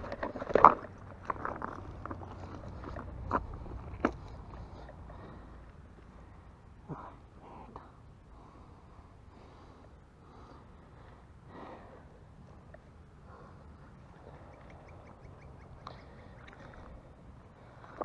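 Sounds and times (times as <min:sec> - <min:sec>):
close breathing: 0:02.0 - 0:14.7, 0:15.7 - 0:18.0.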